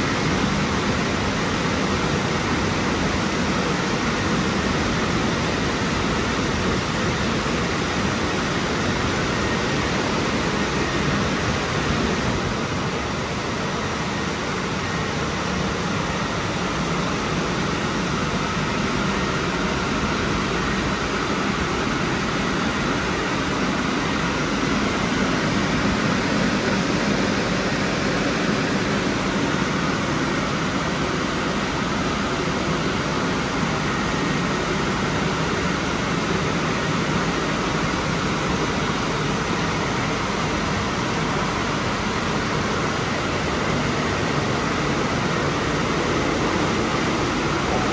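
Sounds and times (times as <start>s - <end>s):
car wash drying blowers: 0.0s - 47.9s.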